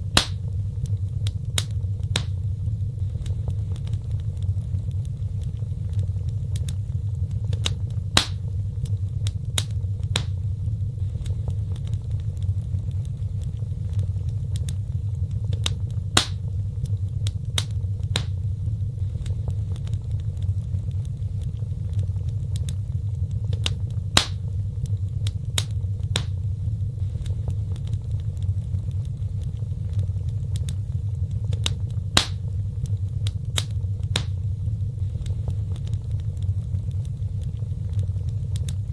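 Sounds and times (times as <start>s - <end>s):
fire crackling and popping: 0.0s - 38.9s
low rumble of fire: 0.0s - 38.9s.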